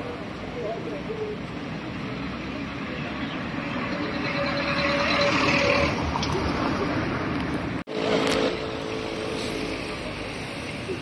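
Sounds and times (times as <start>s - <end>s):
passing cars: 0.0s - 11.0s.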